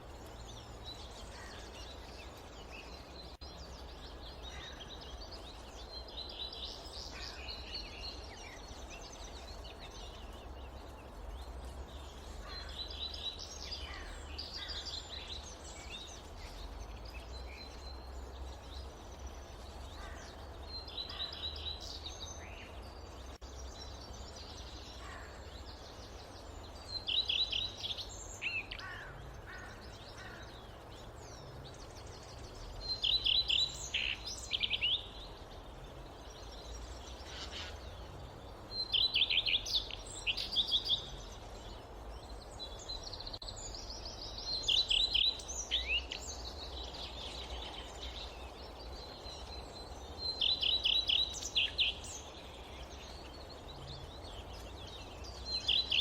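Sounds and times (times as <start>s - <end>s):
low rumble of wind: 0.0s - 56.0s.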